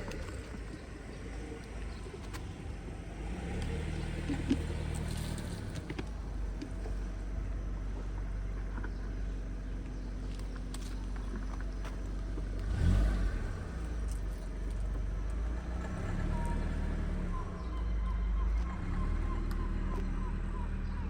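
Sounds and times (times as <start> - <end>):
low traffic rumble: 0.0 - 21.0
vehicle engine hum: 0.0 - 21.0.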